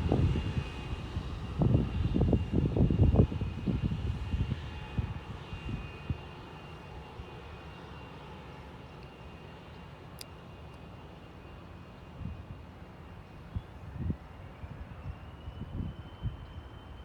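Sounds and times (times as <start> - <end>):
airplane engine rumble: 0.0 - 17.0.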